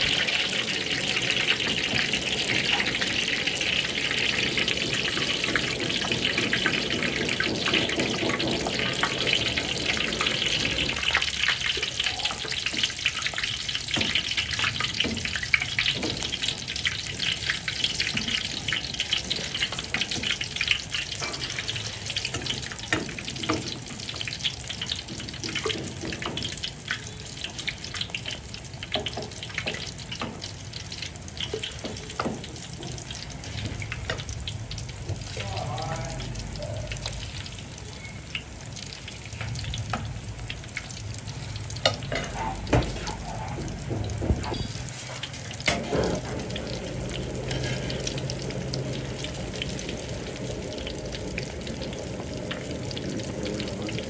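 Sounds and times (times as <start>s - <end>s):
oil sizzling in a pan: 0.0s - 54.0s.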